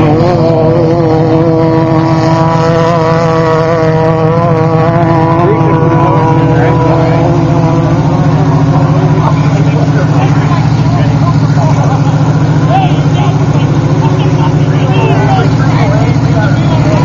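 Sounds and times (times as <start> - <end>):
race vehicle engine running: 0.0 - 17.0.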